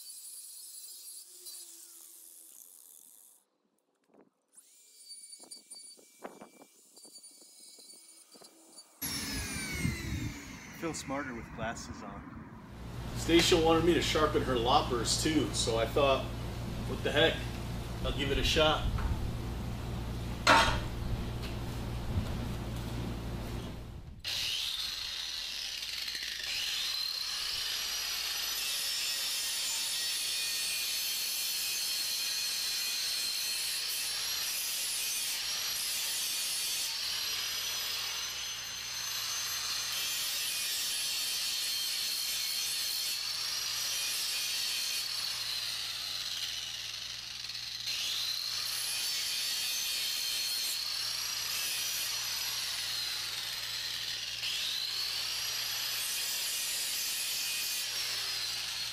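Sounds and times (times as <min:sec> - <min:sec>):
angle grinder grinding blade: 0:00.0 - 0:03.5, 0:04.5 - 0:11.4, 0:13.2 - 0:18.8, 0:24.2 - 0:58.9.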